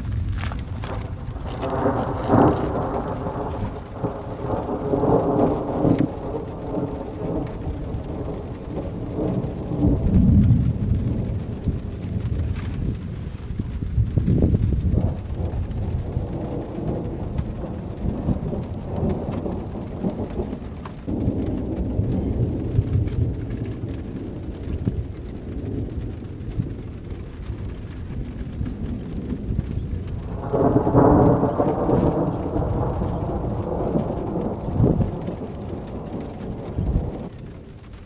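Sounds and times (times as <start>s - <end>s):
rolling thunder: 0.0s - 38.0s.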